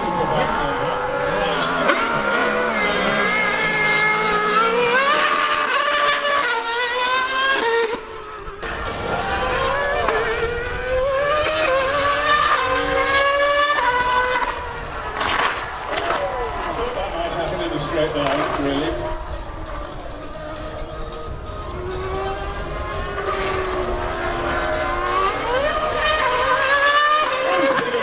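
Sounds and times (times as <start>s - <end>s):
racing engines accelerating: 0.0s - 28.0s.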